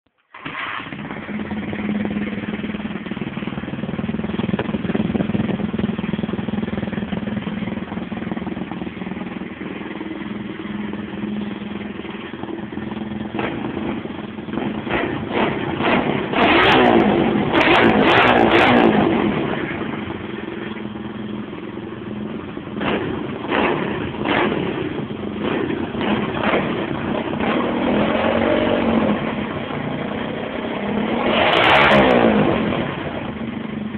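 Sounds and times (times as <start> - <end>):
motorbike engine idling and revving: 0.3 - 33.9.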